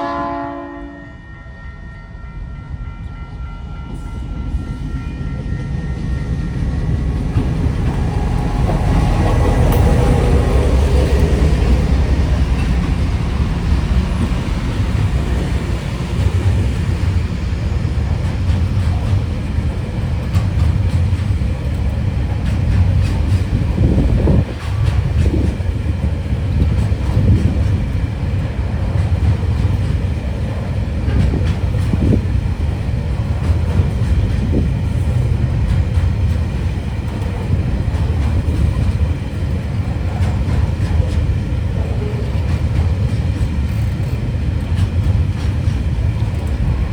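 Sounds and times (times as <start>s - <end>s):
freight train rumbling past: 0.0s - 46.9s
train screeches and clanks: 0.6s - 46.9s.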